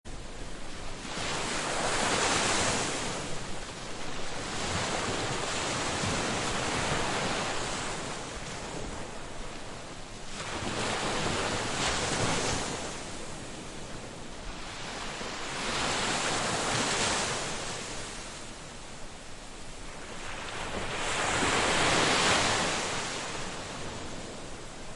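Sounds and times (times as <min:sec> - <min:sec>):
ocean waves breaking on beach: 0:00.1 - 0:24.9.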